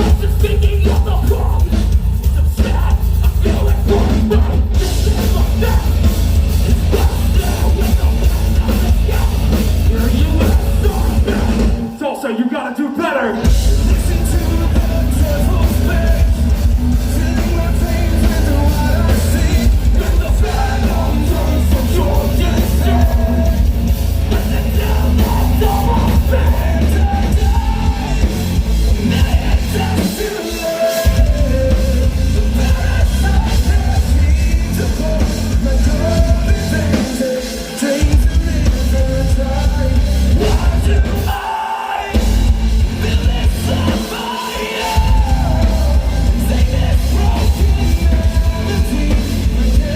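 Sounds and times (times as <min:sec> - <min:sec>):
metal band playing live: 0:00.0 - 0:49.9
yelled vocals: 0:00.0 - 0:49.9.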